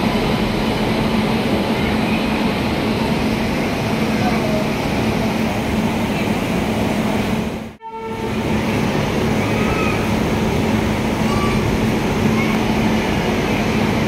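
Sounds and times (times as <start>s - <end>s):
train machine hum: 0.0s - 14.0s.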